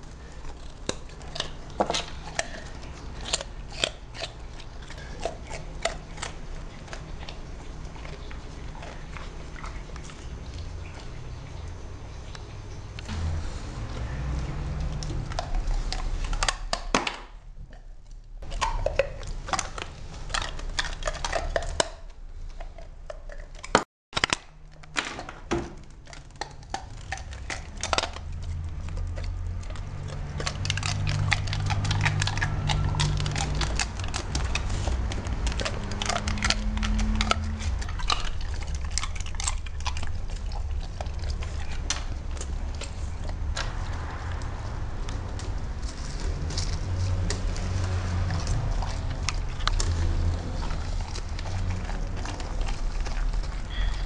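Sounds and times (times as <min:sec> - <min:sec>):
dog crunching ice cube: 0:00.0 - 0:10.9, 0:18.4 - 0:54.0.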